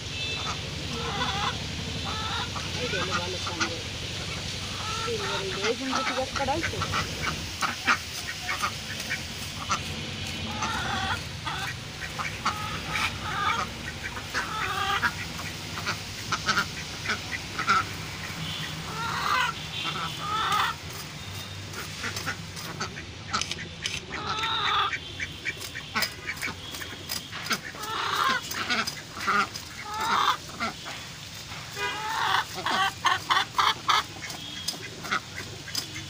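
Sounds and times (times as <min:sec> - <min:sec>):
ducks quacking: 0:00.0 - 0:36.0.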